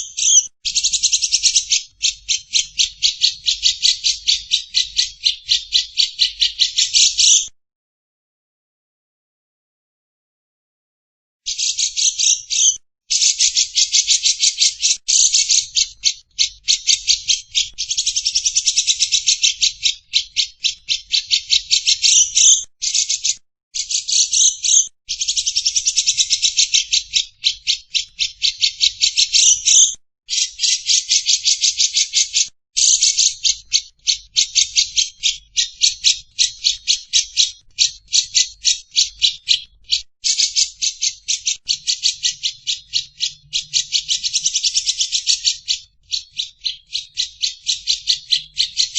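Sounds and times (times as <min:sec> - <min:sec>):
lovebird chattering trills: 0:00.0 - 0:07.5, 0:11.5 - 0:48.9.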